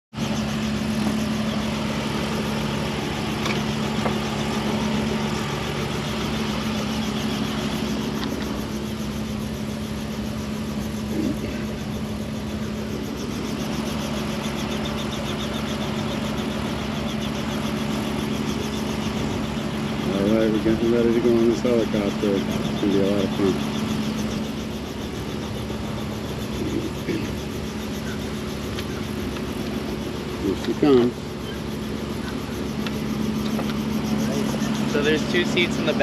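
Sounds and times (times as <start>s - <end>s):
engine running steadily: 0.1s - 36.0s.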